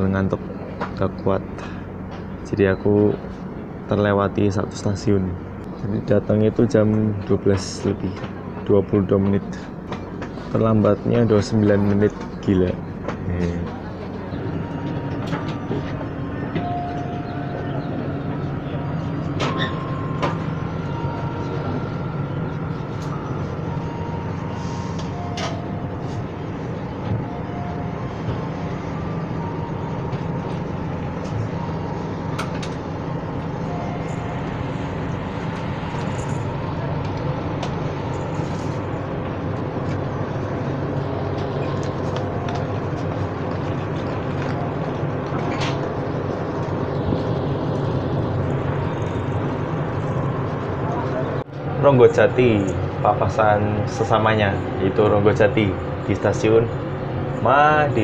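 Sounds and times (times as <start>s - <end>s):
diesel train engines humming: 0.0s - 58.0s
locomotive drawing in: 0.0s - 58.0s.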